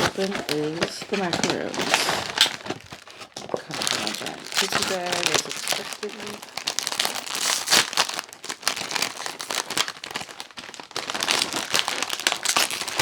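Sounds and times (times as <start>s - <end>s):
plastic snack bag crinkling: 0.0s - 13.0s.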